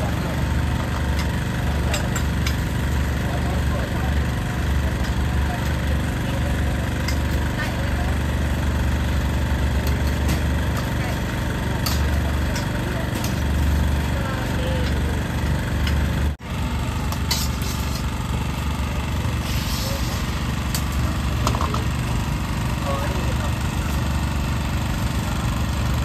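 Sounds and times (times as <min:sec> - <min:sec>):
crowd voices: 0:00.0 - 0:26.0
engine idling hum: 0:00.0 - 0:26.0.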